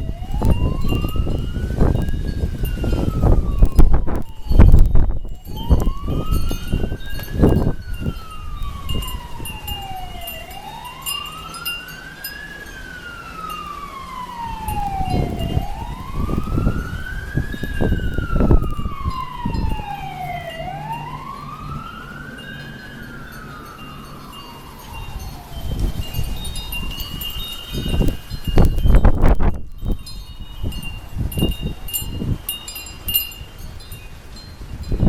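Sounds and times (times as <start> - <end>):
emergency siren wailing: 0.0 - 35.0
wind buffeting microphone: 0.0 - 35.0.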